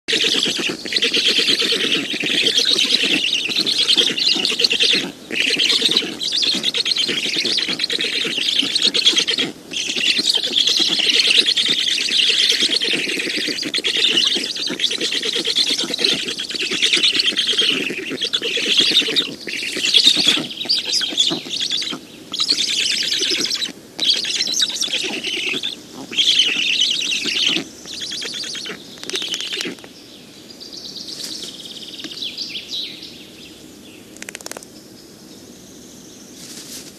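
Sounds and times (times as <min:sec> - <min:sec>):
stork nestlings rasping chatter: 0:00.1 - 0:29.8.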